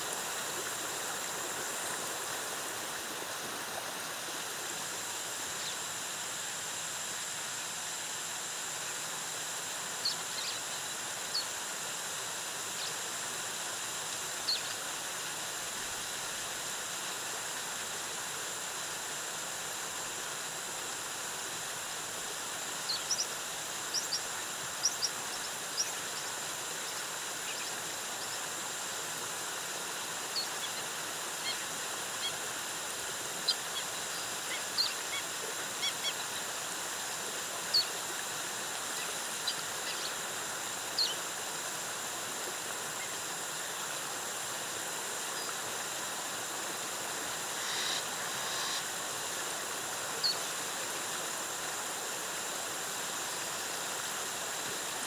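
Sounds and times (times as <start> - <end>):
high hiss: 0.0 - 55.0
waterfall cascading: 0.0 - 55.0.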